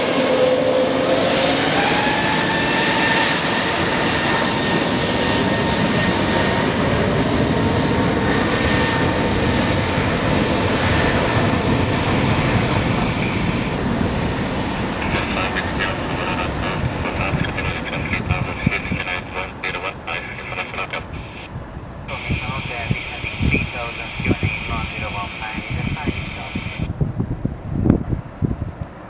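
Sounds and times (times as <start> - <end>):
high engine whine: 0.0 - 29.0
jet engines roaring: 0.0 - 29.0.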